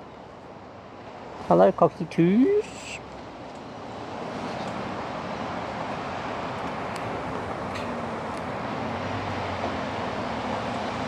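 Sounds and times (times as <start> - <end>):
passing motor traffic: 0.0 - 11.0.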